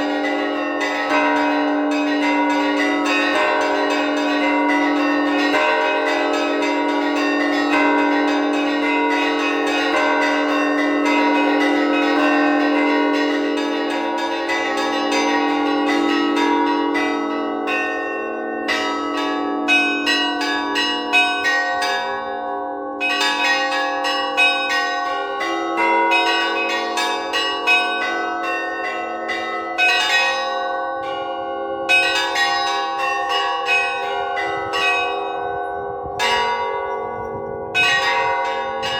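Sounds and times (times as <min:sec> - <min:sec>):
lower bells ringing: 0:00.0 - 0:38.9
small church bells struck rapidly: 0:00.0 - 0:38.9.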